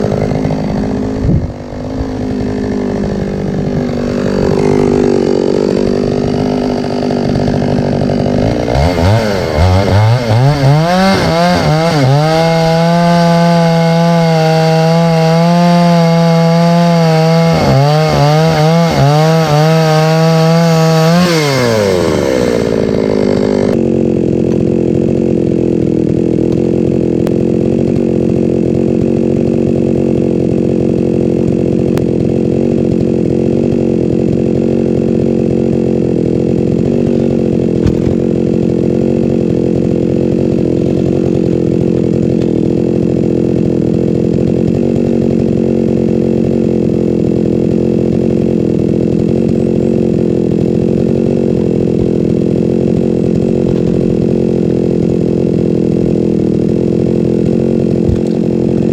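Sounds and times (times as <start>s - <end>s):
chainsaw engine idling and revving: 0.0s - 58.9s.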